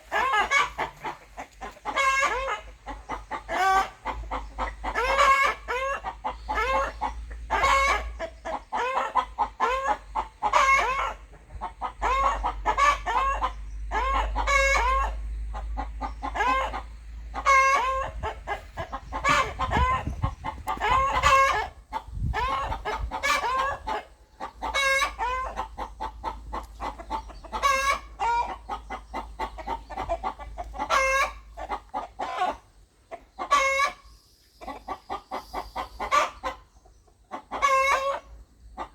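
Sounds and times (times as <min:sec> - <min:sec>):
rooster clucking: 0:00.0 - 0:38.9.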